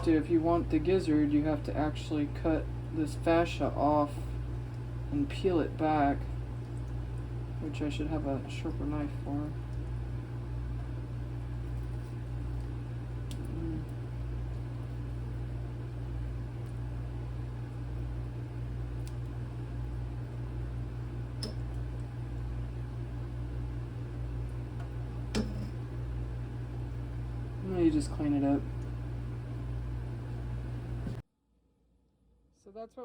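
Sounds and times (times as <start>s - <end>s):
low mechanical hum: 0.0s - 31.2s.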